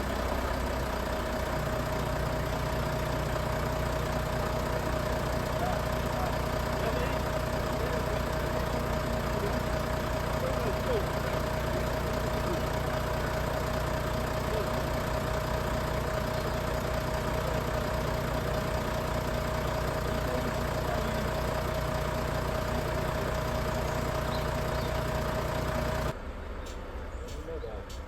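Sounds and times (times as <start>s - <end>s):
engine idling with whine: 0.0s - 28.0s.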